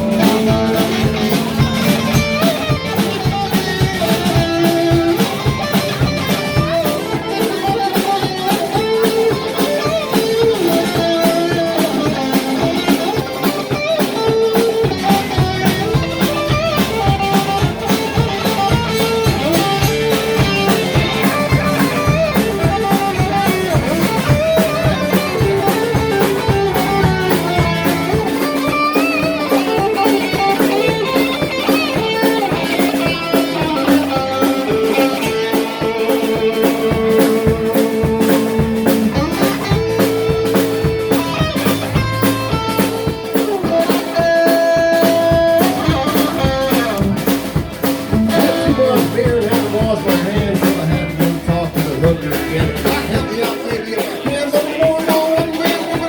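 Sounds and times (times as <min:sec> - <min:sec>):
drum beat: 0:00.0 - 0:56.0
guitar: 0:00.0 - 0:56.0
live band playing: 0:00.0 - 0:56.0.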